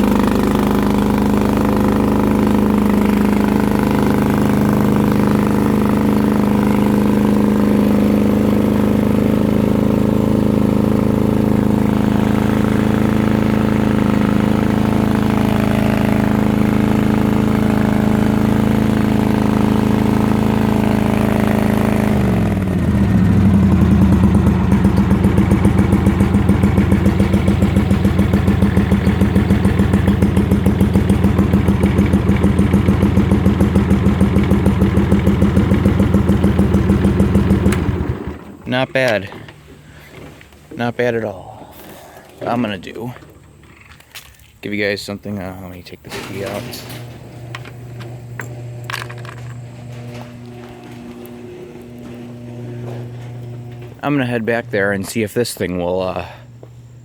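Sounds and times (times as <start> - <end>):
lawn tractor engine running: 0.0 - 57.0.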